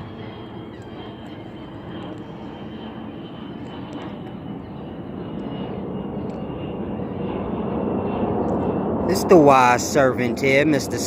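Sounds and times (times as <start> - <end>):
distant engine rumble: 0.0 - 11.0.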